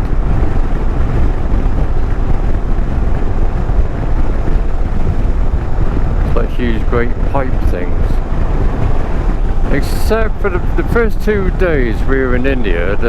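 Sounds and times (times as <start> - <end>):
road noise: 0.0 - 13.0
wind rumble on microphone: 0.0 - 13.0.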